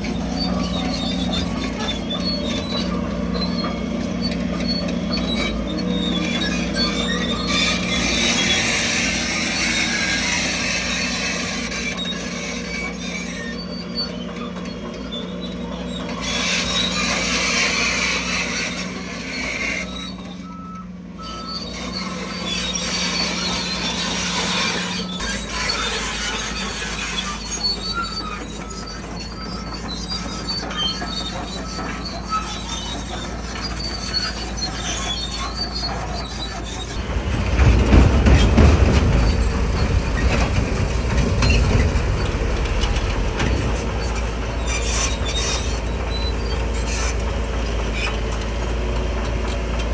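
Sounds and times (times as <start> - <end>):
bulldozer diesel engine running: 0.0 - 49.9
steel tracks squealing: 0.0 - 49.9.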